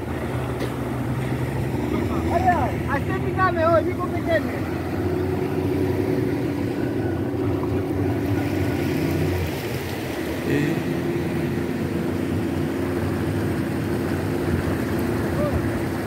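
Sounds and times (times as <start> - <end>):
outboard motor drone: 0.0 - 16.0
wind: 0.0 - 16.0.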